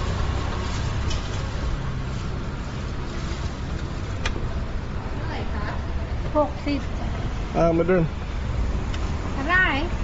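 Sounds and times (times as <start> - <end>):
low traffic rumble: 0.0 - 10.0.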